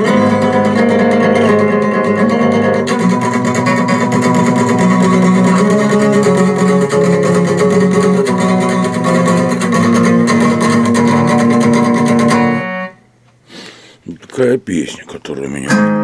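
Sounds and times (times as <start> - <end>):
guitar strumming chords: 0.0 - 13.2, 14.1 - 16.0.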